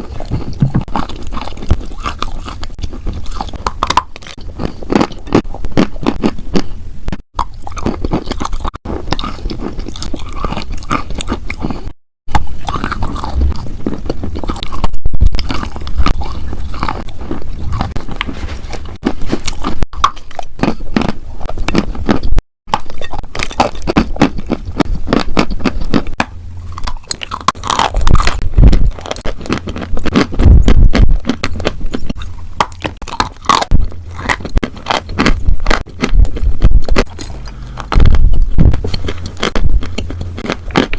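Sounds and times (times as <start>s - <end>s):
crunching and chewing brittle food: 0.0s - 40.9s.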